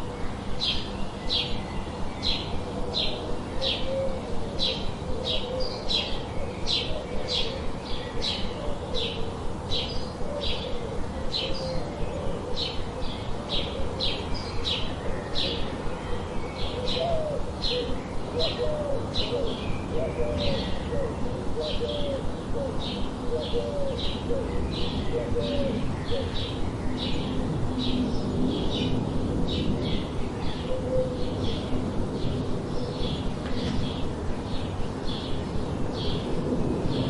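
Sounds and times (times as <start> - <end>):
background hiss: 0.0 - 37.0
birds chirping: 0.0 - 37.0.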